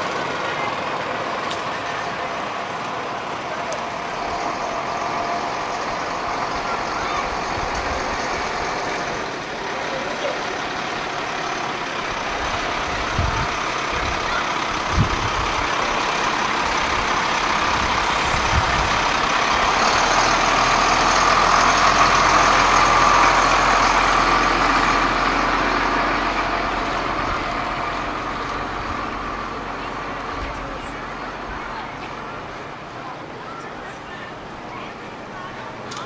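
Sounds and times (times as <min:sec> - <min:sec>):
truck diesel engine driving past: 0:00.0 - 0:35.9.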